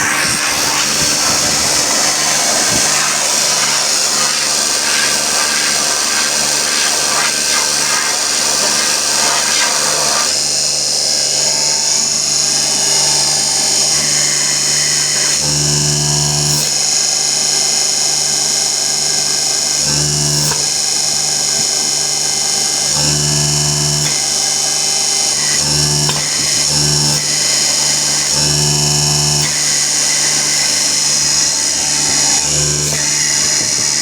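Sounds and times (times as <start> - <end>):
electric compressor running: 0.0 - 34.0.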